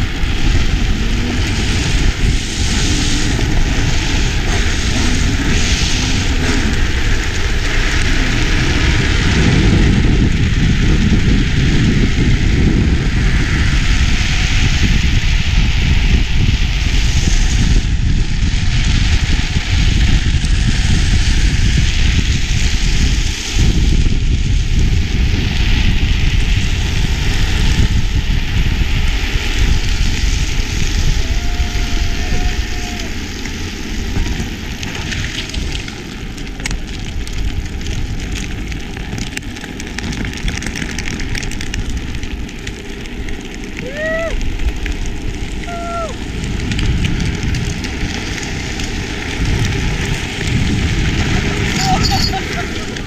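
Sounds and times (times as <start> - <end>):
wheels rolling and sliding on asphalt: 0.0 - 53.0
wind buffeting microphone: 0.0 - 53.0.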